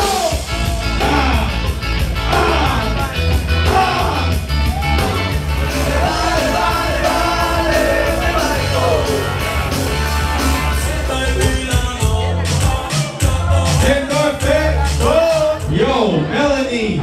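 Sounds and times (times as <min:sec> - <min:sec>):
dance music with heavy bass beat: 0:00.0 - 0:15.7
person singing: 0:00.0 - 0:15.7.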